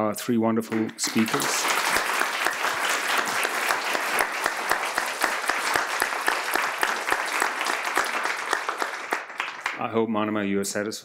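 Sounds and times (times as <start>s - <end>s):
audience applauding: 0.7s - 9.9s.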